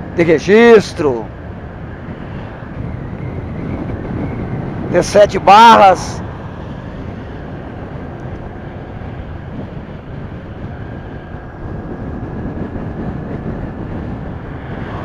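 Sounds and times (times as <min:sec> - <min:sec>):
motorcycle engine and road drone: 0:00.0 - 0:15.0
wind rushing over microphone: 0:00.0 - 0:15.0.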